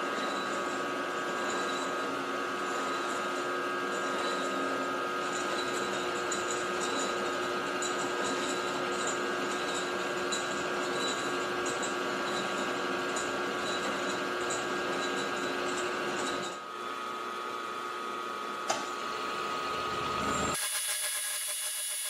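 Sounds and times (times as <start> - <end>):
milling machine whine: 0.0 - 22.0.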